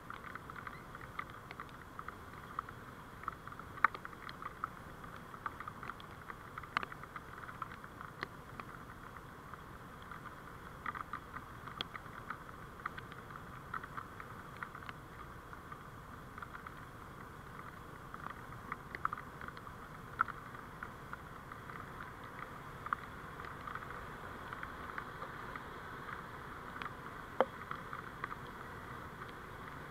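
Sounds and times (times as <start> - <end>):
road and vehicle noise: 0.0 - 29.9
small irregular ticks: 0.0 - 29.9.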